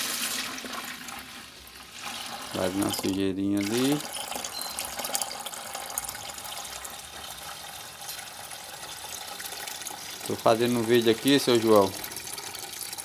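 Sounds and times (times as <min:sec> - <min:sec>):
water pouring into plastic bucket: 0:00.0 - 0:13.0.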